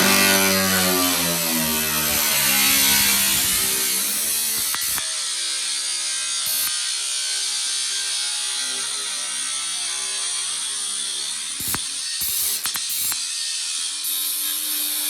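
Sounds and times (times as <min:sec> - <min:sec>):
power tool cutting sheet metal: 0:00.0 - 0:15.0.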